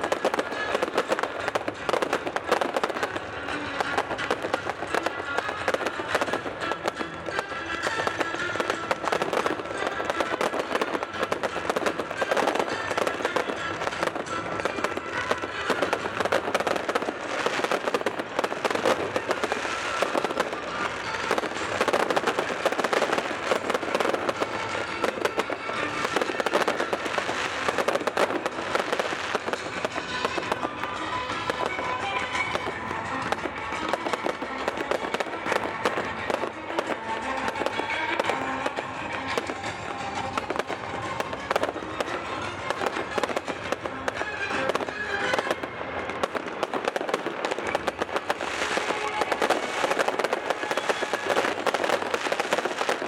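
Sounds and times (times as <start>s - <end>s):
fireworks bursting: 0.0s - 53.0s.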